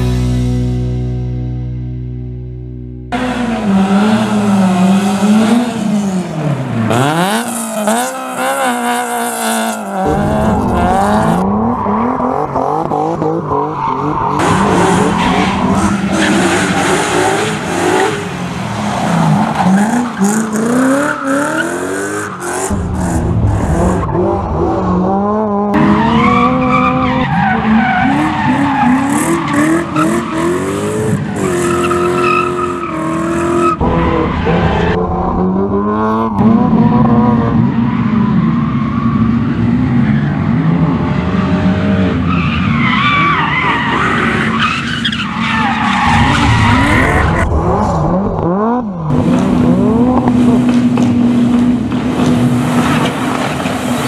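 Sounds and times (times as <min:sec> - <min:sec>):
car engines revving: 0:03.1 - 0:54.0
tyres skidding: 0:03.2 - 0:54.0.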